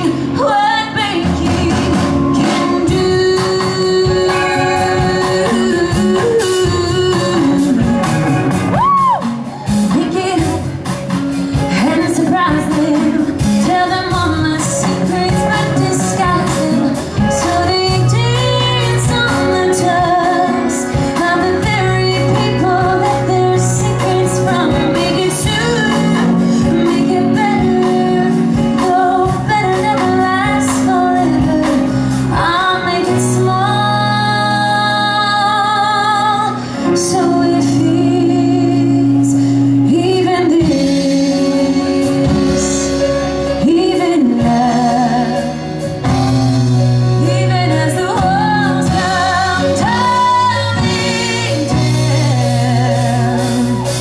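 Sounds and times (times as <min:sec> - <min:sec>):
woman singing into a microphone: 0:00.0 - 0:08.1, 0:08.7 - 0:54.0
instrumental accompaniment: 0:00.0 - 0:54.0.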